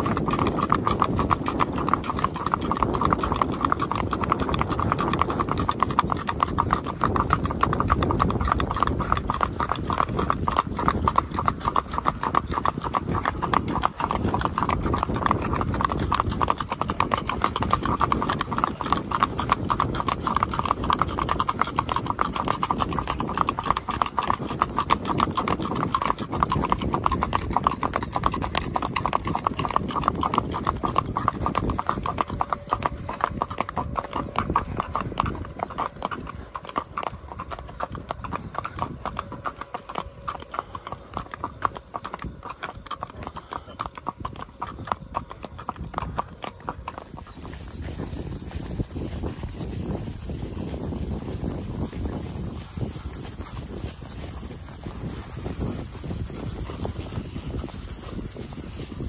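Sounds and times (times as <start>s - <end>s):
hooves clip-clopping on pavement: 0.0s - 59.0s.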